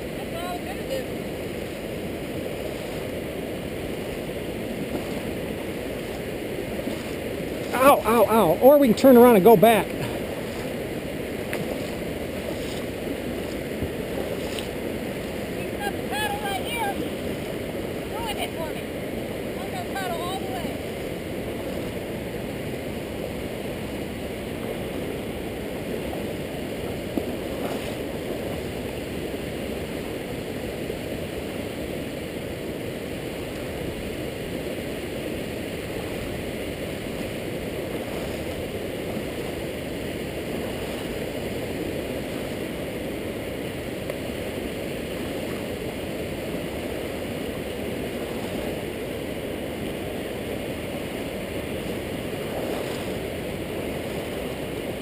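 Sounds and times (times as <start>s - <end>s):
river water flowing over rocks: 0.0s - 55.0s
water spilling over low dam: 0.0s - 55.0s.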